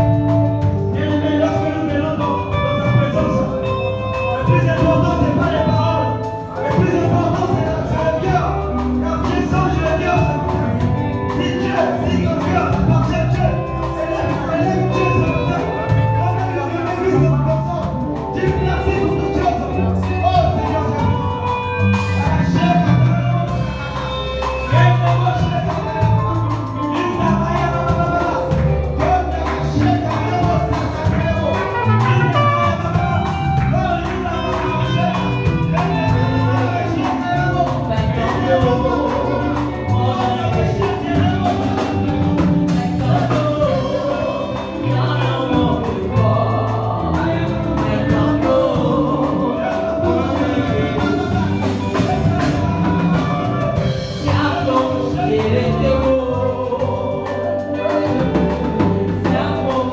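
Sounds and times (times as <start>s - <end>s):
gospel band playing: 0.0s - 59.9s
singers singing: 0.0s - 59.9s.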